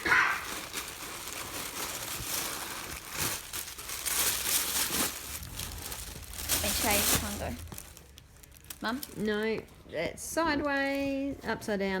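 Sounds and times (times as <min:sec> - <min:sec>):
packaging rustling and crinkling: 0:00.0 - 0:11.4.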